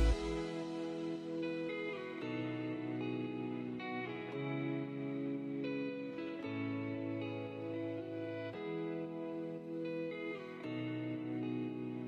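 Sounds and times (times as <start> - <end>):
gently strummed guitar chords: 0.0 - 12.0.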